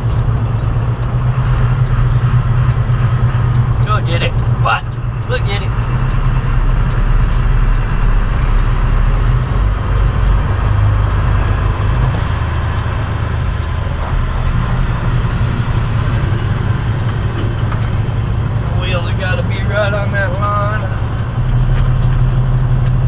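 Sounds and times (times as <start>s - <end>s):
diesel truck engine idling: 0.0s - 23.0s.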